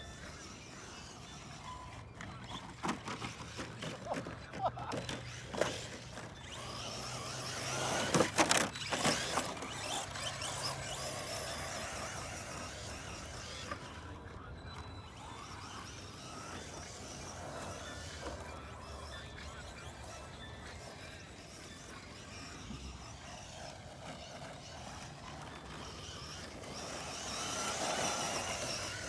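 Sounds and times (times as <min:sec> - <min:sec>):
rc car motor running: 0:00.0 - 0:29.0.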